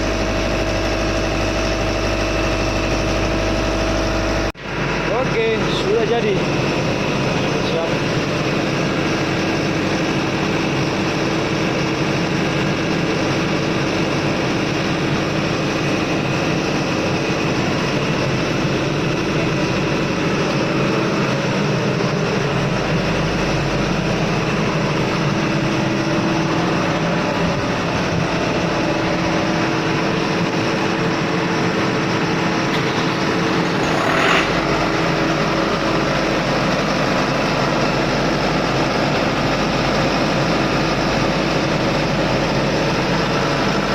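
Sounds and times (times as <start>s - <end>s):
engine room machinery drone: 0.0s - 43.9s.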